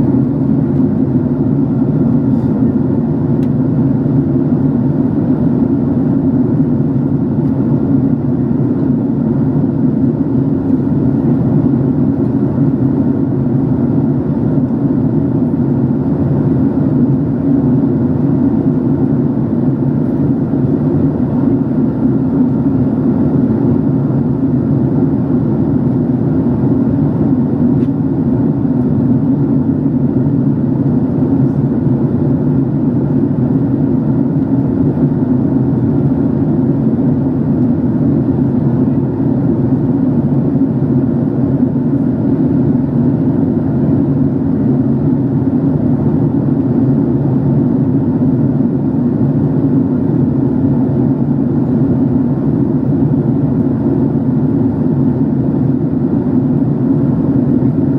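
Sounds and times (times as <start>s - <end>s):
airliner cabin drone: 0.0s - 57.9s.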